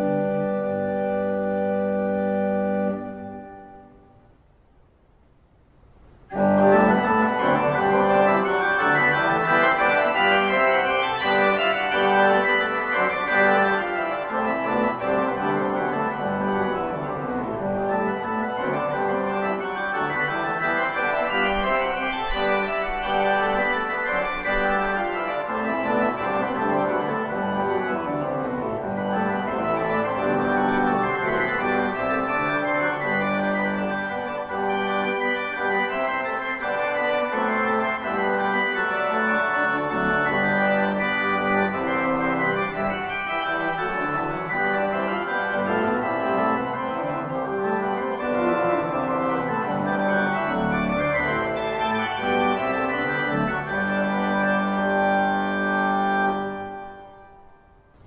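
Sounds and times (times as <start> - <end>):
pipe organ playing: 0.0 - 4.0, 6.3 - 57.8.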